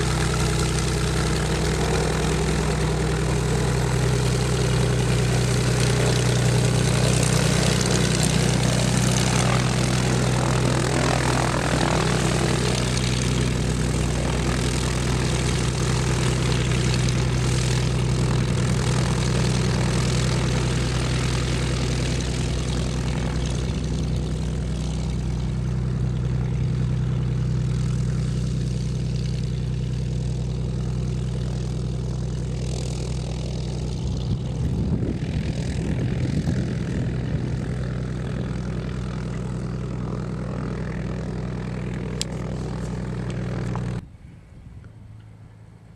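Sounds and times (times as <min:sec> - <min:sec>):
propeller airplane engine running: 0:00.0 - 0:45.9.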